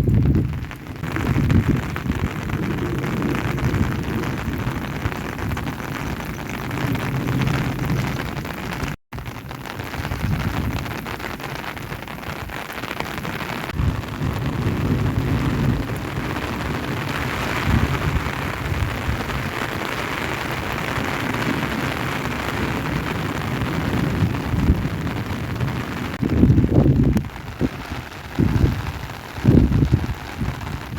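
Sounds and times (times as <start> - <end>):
low rumbling: 0.0 - 10.8, 13.7 - 30.9
heavy rain pouring: 0.0 - 30.9.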